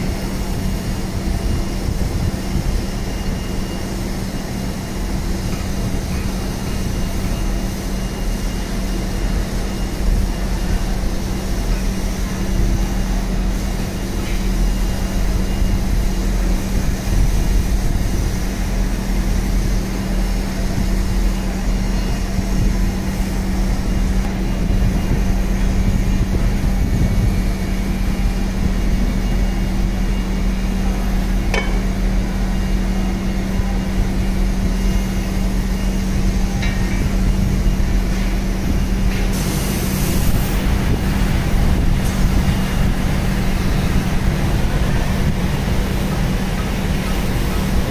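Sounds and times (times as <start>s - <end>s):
machine drone with low hum: 0.0s - 47.9s.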